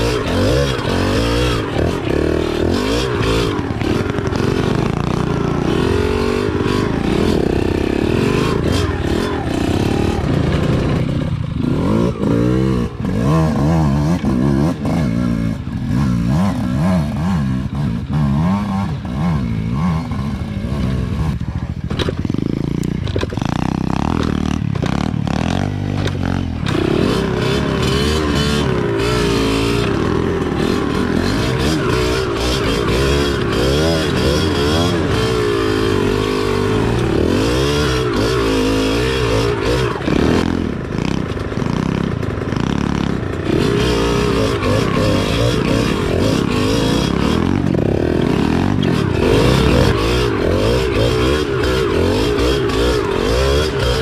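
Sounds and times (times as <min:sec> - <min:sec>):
small motorcycle engine revving: 0:00.0 - 0:54.0.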